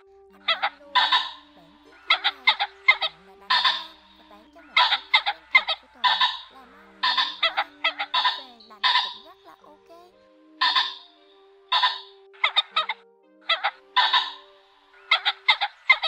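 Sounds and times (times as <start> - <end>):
pheasants calling: 0.0 - 9.6, 10.6 - 16.0.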